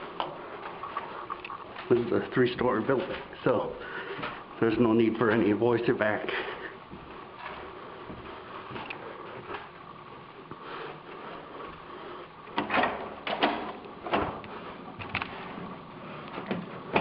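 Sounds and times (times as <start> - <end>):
footsteps in a stairwell: 0.0 - 5.4, 6.3 - 17.0
steady room hum: 0.0 - 17.0.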